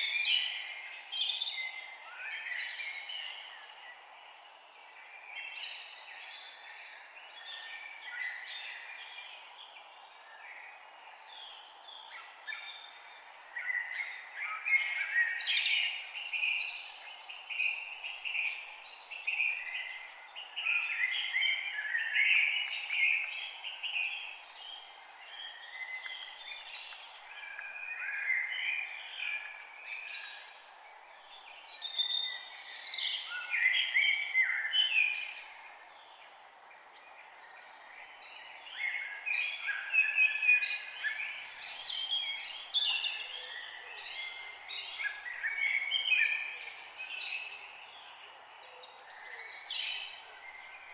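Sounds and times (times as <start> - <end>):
faint background hiss: 0.0 - 50.9
songbirds chirping and singing: 0.0 - 50.9.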